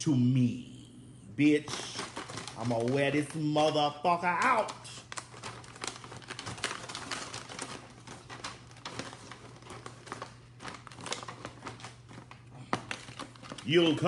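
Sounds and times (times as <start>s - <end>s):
aluminium foil pan crinkling: 1.5s - 14.0s.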